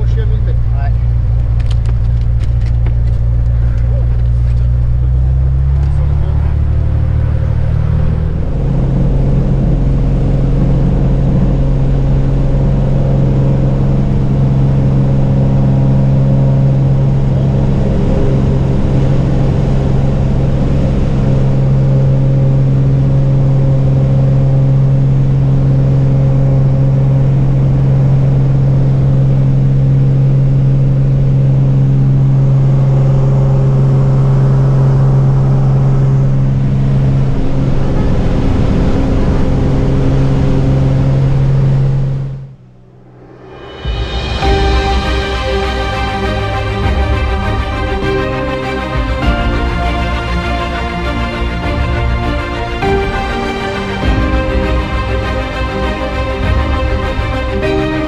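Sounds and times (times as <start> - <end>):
propeller plane engine drone: 0.0 - 58.0.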